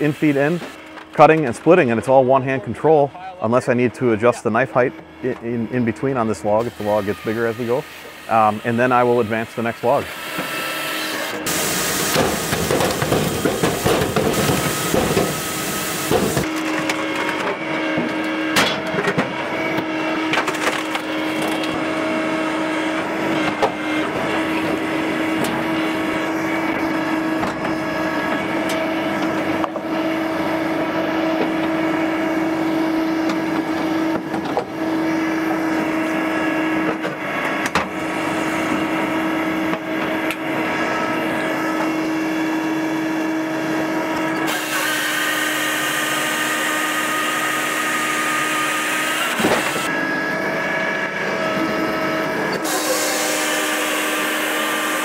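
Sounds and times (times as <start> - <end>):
machine humming: 0.0 - 55.0.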